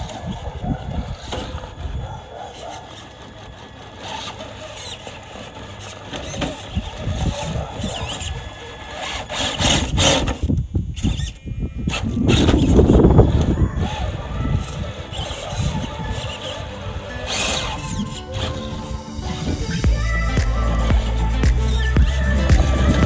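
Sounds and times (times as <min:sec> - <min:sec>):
electric motor whining: 0:00.0 - 0:23.0
tyres scraping on rocks: 0:00.0 - 0:23.0.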